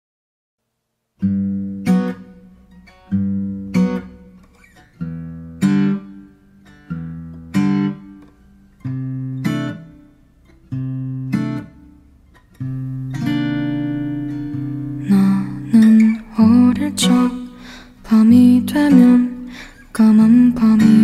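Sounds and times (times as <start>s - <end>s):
acoustic guitar strumming chords: 1.2s - 21.0s.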